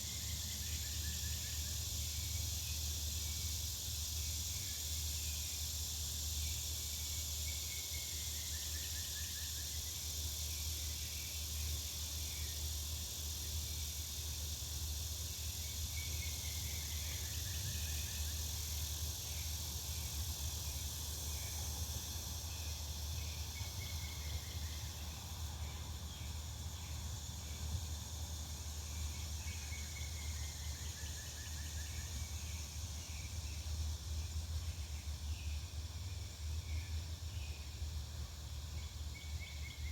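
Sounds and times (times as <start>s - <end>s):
high insect-like hiss: 0.0s - 39.9s.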